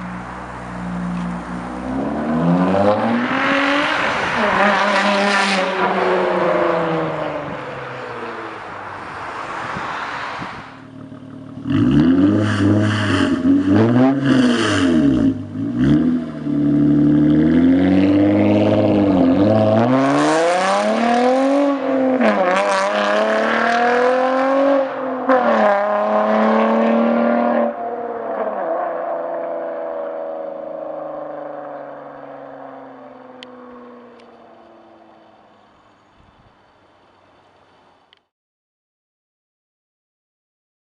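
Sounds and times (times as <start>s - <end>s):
car engine revving: 0.0s - 35.5s.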